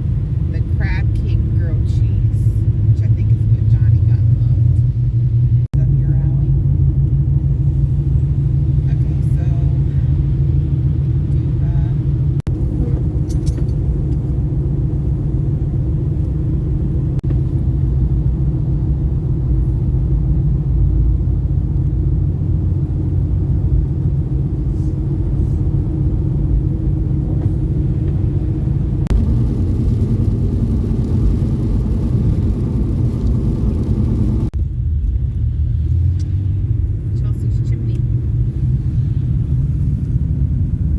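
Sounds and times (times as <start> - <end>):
car engine: 0.0 - 40.9
road noise: 0.0 - 40.9.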